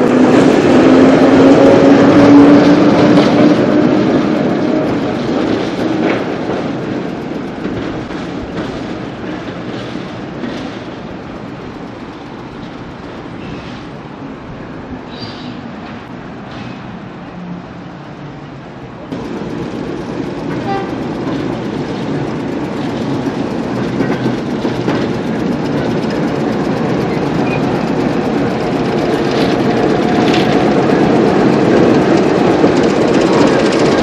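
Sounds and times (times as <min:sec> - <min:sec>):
diesel locomotive engine passing: 0:00.0 - 0:34.0
distant rail noise: 0:00.0 - 0:34.0.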